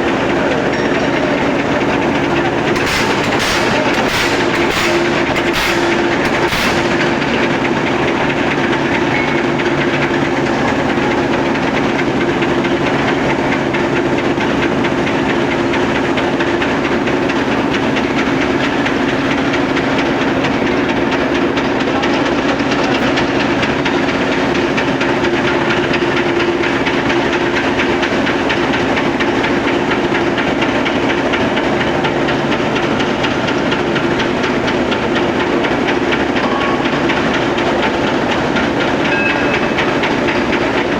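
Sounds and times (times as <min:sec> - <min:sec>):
machinery hissing rattle: 0:00.0 - 0:40.9
machinery low hum: 0:00.0 - 0:40.9.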